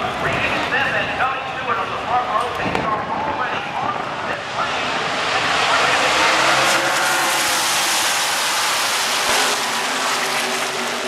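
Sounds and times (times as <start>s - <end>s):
race car engines passing: 1.8s - 11.0s.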